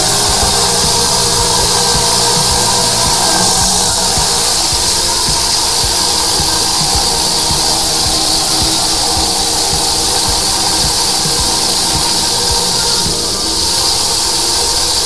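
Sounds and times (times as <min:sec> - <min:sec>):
drain jetter spraying water: 0:00.0 - 0:15.0
steady hum: 0:00.0 - 0:15.0.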